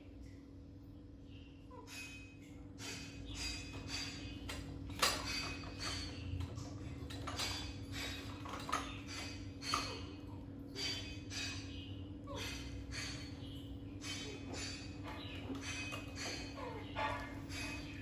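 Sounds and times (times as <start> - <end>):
steady low hum: 0.0 - 18.0
dishes clattering in a dish rack: 1.8 - 18.0.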